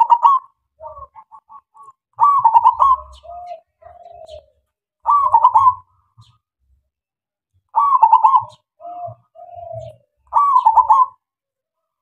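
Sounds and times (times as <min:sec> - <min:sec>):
dove cooing: 0:00.0 - 0:06.4, 0:07.7 - 0:11.3.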